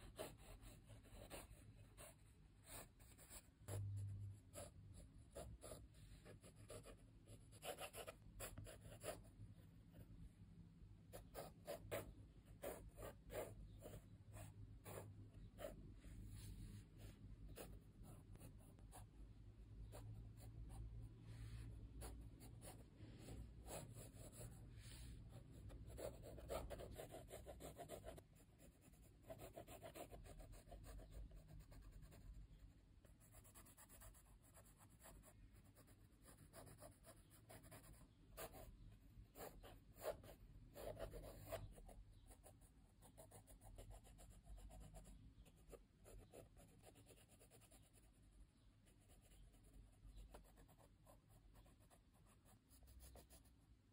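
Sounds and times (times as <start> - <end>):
pencil scratching on paper: 0.0 - 10.1, 11.1 - 19.1, 19.8 - 38.7, 39.3 - 48.2, 48.8 - 53.6.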